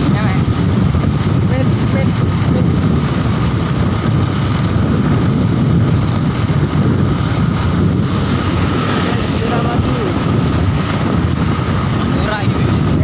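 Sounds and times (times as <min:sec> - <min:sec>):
wind blasting microphone: 0:00.0 - 0:13.0.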